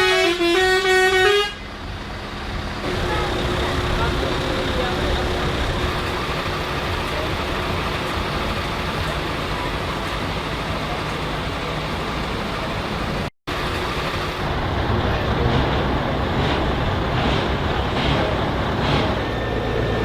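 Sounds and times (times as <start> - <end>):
heavy truck engines running: 0.0 - 20.0
traffic rumble: 0.0 - 20.0.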